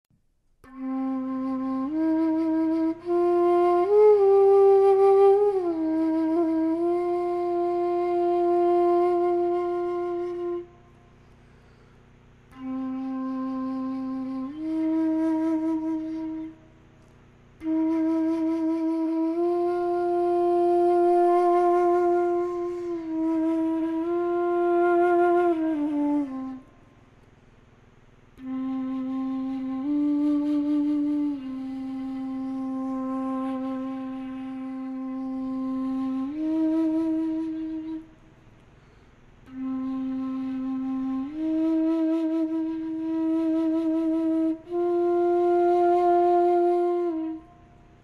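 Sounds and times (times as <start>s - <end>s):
bamboo flute music: 0.6s - 27.2s, 28.4s - 48.0s.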